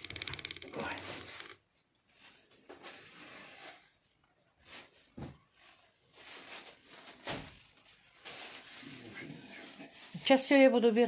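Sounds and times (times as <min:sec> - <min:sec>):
rustling: 0:00.0 - 0:10.5.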